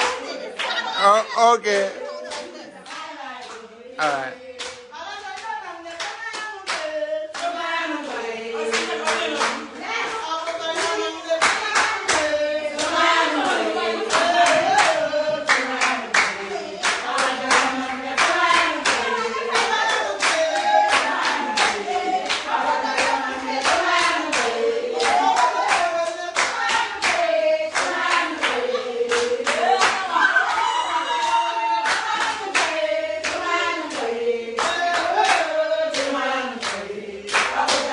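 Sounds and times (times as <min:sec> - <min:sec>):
rhythmic hand clapping: 0:00.0 - 0:01.0, 0:02.2 - 0:37.9
women singing together: 0:00.0 - 0:37.9.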